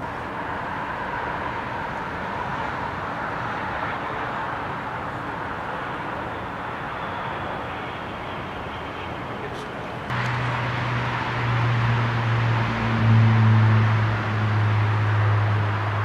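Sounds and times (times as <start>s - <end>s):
distant vehicle rumble: 0.0s - 16.0s.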